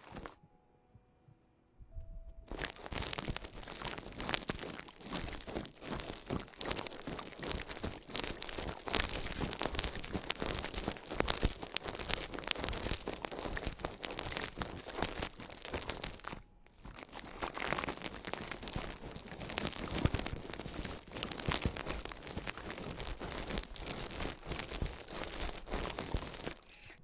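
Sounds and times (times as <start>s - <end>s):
close scratching and crackling: 0.0s - 0.4s, 2.0s - 27.0s.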